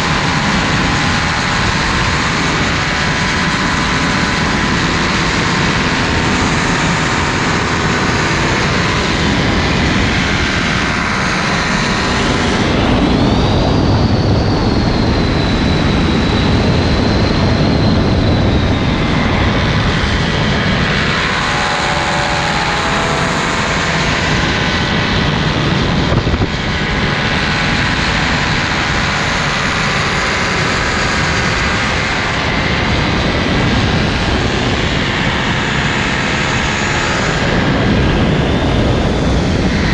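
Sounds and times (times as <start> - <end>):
high whine: 0.0 - 39.9
propeller engine running: 0.0 - 39.9
rushing air: 0.0 - 39.9.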